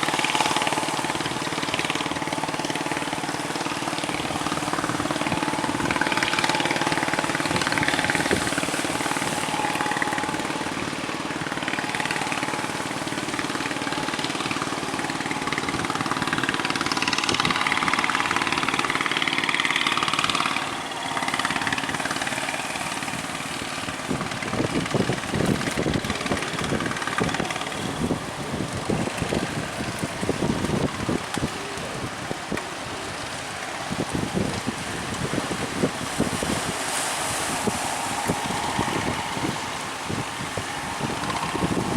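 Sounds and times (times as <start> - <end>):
boat engine running: 0.0 - 41.9
rush of wind and water: 0.0 - 41.9
wind buffeting microphone: 0.0 - 41.9.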